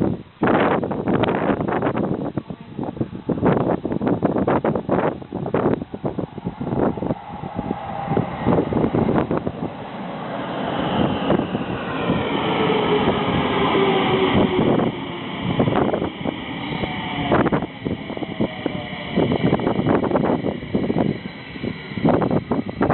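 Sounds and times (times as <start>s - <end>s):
high train whine: 0.0s - 22.9s.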